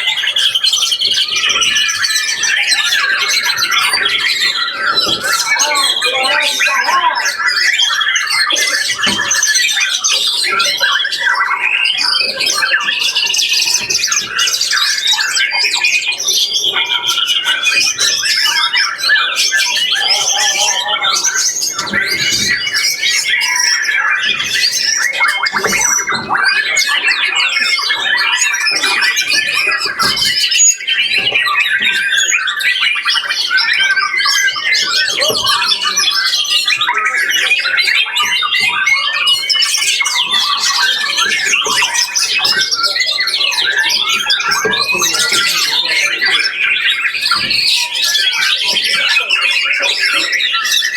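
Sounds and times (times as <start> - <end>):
songbirds singing in chorus: 0.0 - 50.9.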